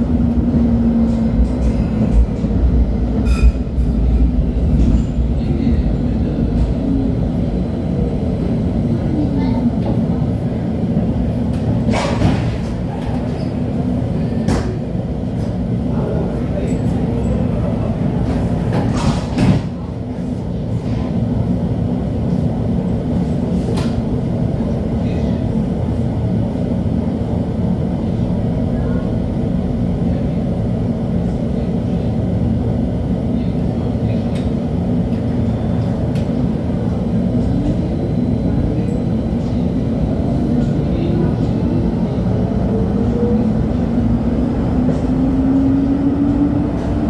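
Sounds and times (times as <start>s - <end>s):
light-rail car wheels rumbling: 0.0s - 47.0s.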